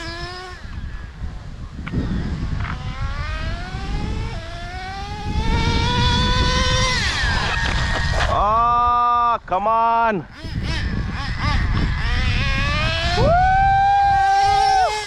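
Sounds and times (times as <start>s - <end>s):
rc truck engine whining: 0.0s - 9.2s, 10.3s - 15.0s.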